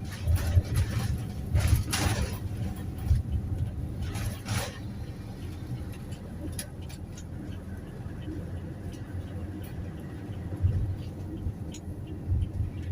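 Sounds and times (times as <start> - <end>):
van engine and road noise: 0.0 - 12.9.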